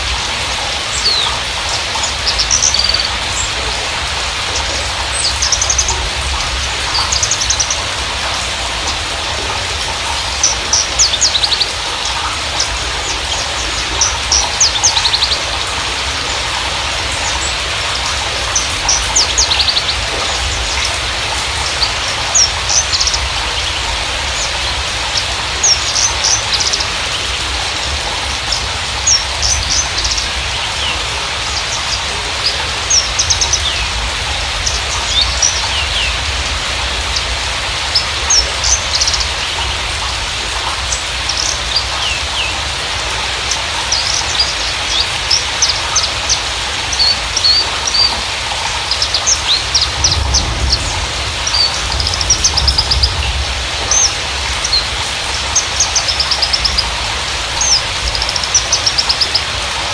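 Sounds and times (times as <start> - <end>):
bird chirps and trills: 0.0 - 59.9.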